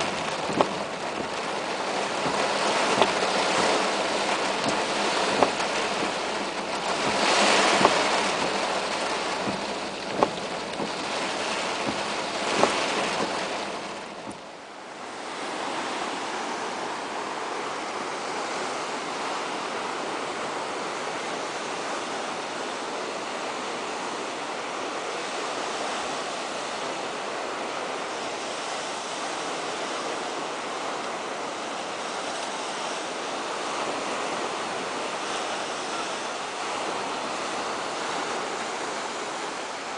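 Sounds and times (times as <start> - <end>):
surf breaking on beach: 0.0 - 22.4, 23.4 - 39.9
heavy rain on car roof: 0.0 - 39.9
wind: 0.0 - 39.9.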